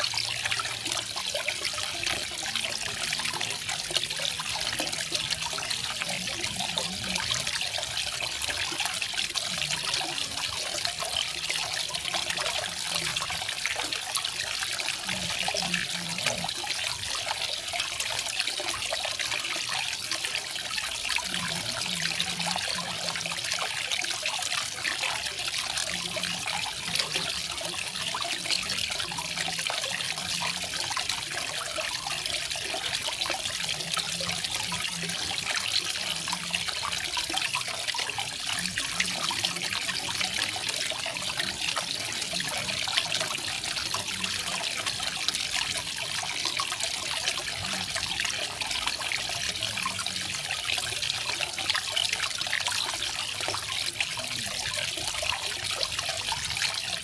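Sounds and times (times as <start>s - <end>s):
faint low water gurgle: 0.0s - 57.0s.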